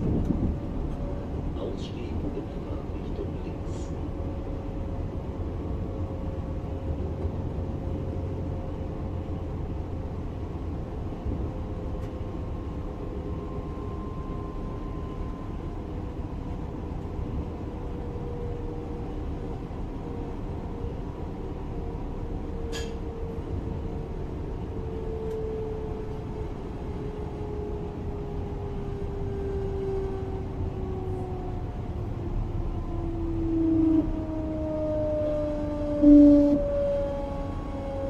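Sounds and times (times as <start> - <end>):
train running gear rumble: 0.0 - 38.0.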